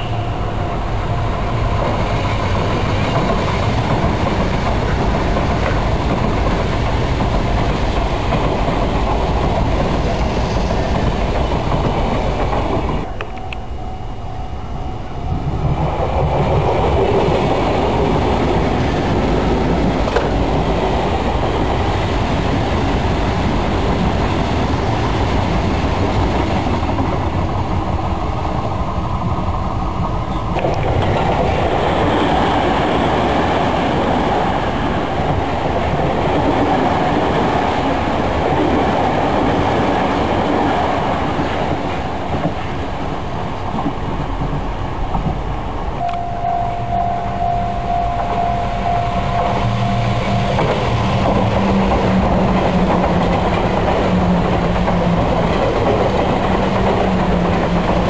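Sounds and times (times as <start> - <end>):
electric train rumbling on track: 0.0 - 58.0.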